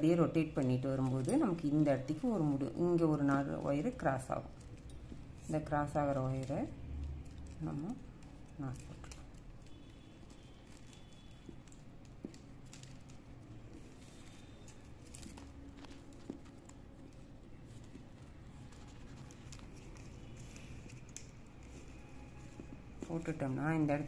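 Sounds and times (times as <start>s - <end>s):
plastic wires rubbing and clicking: 0.0s - 24.0s.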